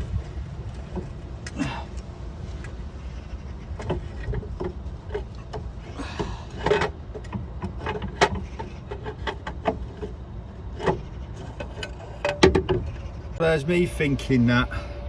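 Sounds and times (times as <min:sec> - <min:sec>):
background traffic rumble: 0:00.0 - 0:15.0.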